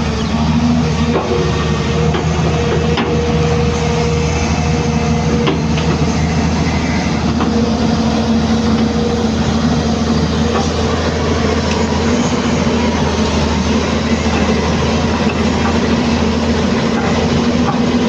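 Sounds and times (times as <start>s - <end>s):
excavator diesel engine drone: 0.0s - 18.0s.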